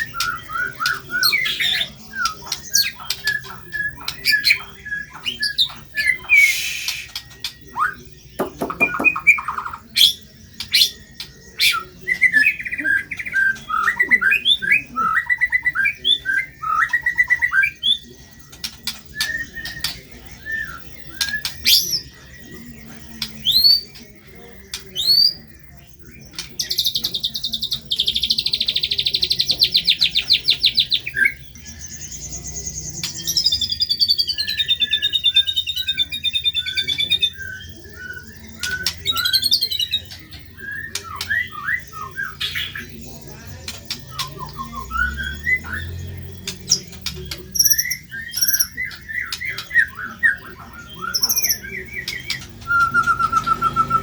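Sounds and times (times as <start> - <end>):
songbird singing trills and whistles: 0.0 - 54.0.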